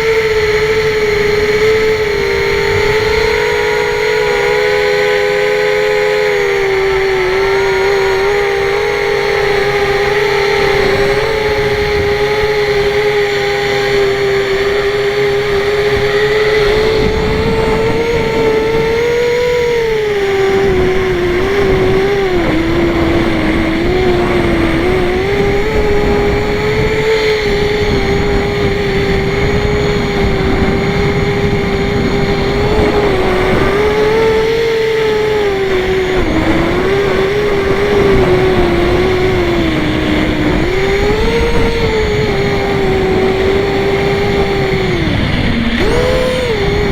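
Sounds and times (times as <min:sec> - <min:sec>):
drone propellers buzzing: 0:00.0 - 0:46.9.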